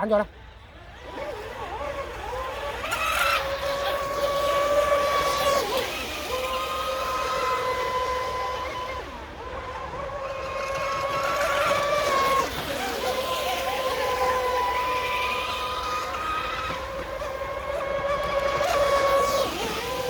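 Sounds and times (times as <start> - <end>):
rc boat motor whine: 0.0 - 20.0.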